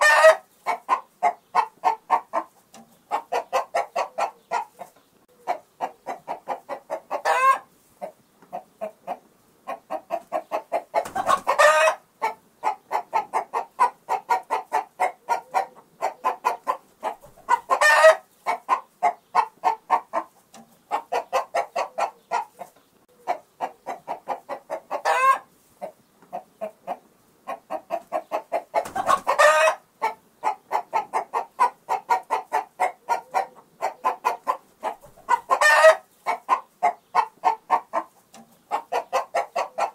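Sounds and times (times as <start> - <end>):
chicken squawk: 0.0 - 2.5, 3.1 - 20.3, 20.9 - 39.9
chickens clucking: 0.0 - 39.9.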